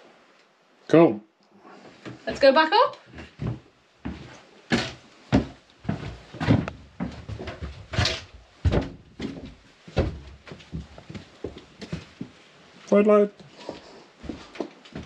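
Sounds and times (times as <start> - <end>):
footsteps on wooden stairs: 1.9 - 12.4, 13.4 - 15.0.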